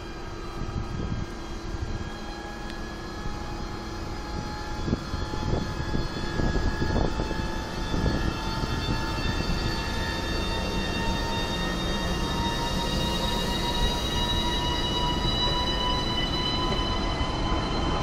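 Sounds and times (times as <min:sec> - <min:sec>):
electric locomotive whine: 0:00.0 - 0:18.0
low rumble of train wheels: 0:00.0 - 0:18.0.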